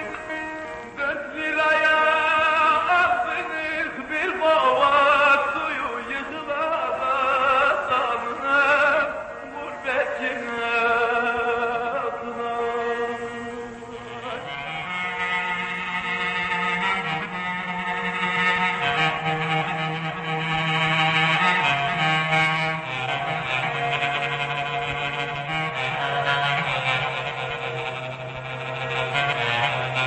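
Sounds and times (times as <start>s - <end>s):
person singing with vibrato: 0.0s - 27.8s
instrumental accompaniment: 0.0s - 30.0s.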